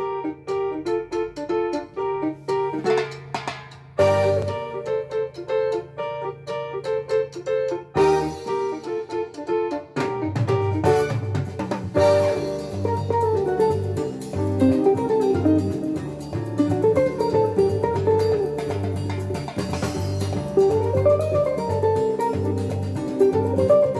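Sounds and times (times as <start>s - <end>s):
recorded music from speakers: 2.4s - 6.3s, 7.3s - 23.9s.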